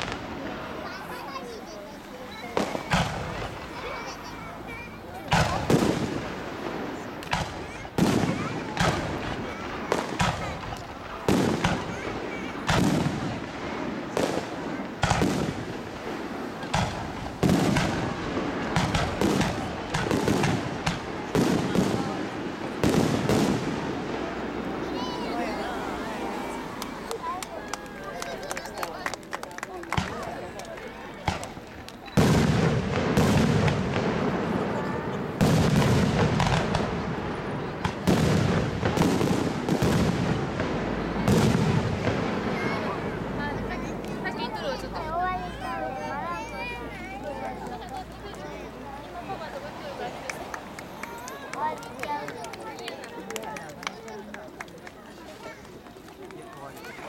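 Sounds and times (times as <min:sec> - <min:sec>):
fireworks bangs: 0:00.0 - 0:57.0
fireworks rumble and crackle: 0:00.0 - 0:57.0.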